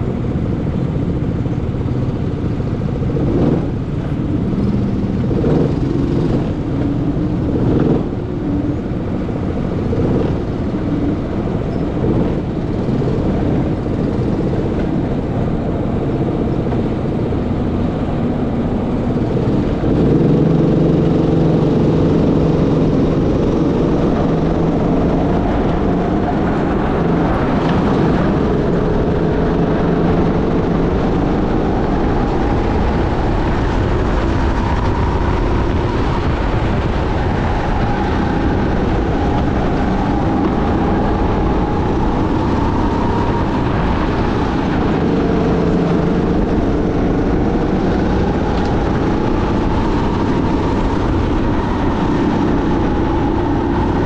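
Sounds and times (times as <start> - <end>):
go-kart engine racing: 0.0 - 54.0.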